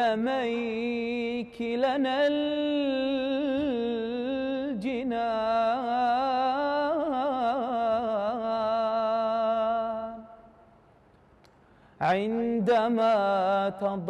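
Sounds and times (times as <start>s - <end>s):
man singing unaccompanied: 0.0s - 10.4s, 12.0s - 14.0s.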